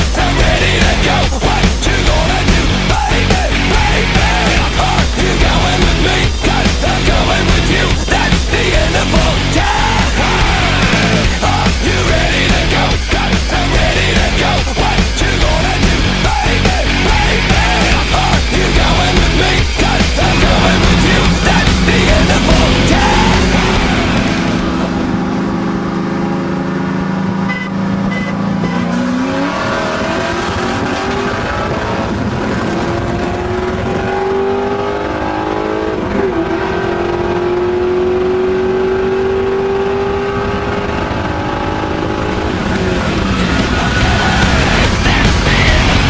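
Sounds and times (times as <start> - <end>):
car engine accelerating hard: 0.0 - 46.0.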